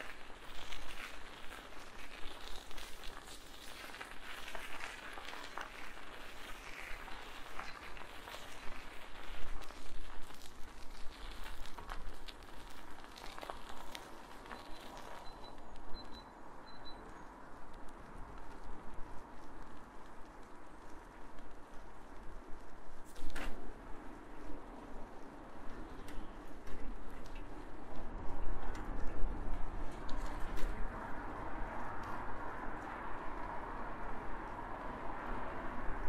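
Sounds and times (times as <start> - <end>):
bicycle tyres rolling on path: 0.0 - 36.0.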